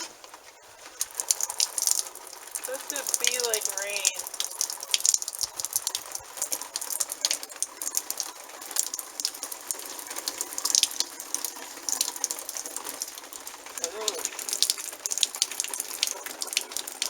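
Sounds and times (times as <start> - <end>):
water spattering on fabric: 0.0 - 17.0.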